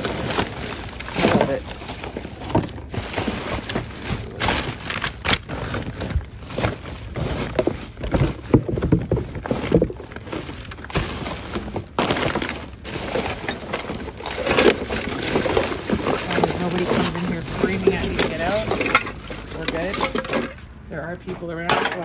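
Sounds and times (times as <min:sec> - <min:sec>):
plastic bags rustling: 0:00.0 - 0:20.8.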